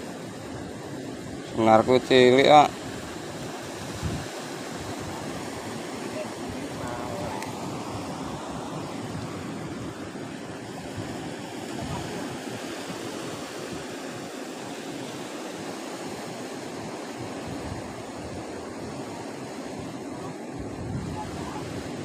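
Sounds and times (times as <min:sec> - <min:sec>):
sea waves washing against rocks: 0:00.0 - 0:22.0.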